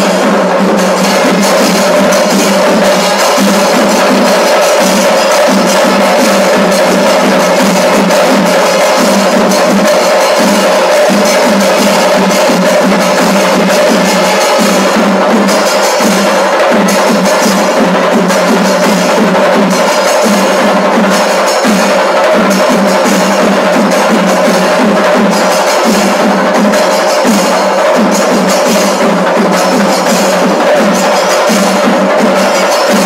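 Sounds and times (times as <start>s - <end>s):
drums beaten with sticks: 0.0s - 33.0s.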